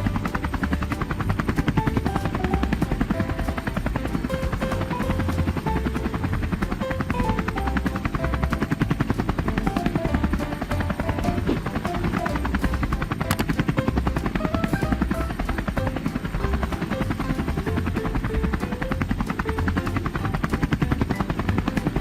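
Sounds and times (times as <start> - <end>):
helicopter rotor chopping: 0.0 - 22.0
light melody of short notes: 0.0 - 22.0.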